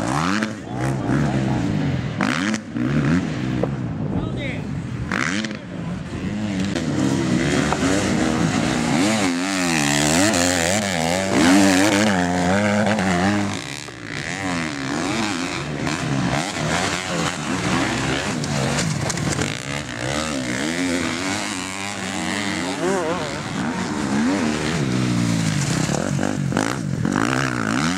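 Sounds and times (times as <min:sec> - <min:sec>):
motocross bike engines revving: 0:00.0 - 0:27.9.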